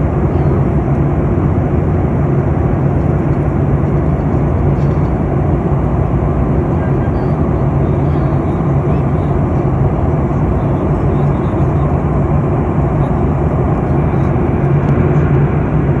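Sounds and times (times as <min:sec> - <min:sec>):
constant low hum: 0:00.0 - 0:16.0
jet engines and rushing air: 0:00.0 - 0:16.0.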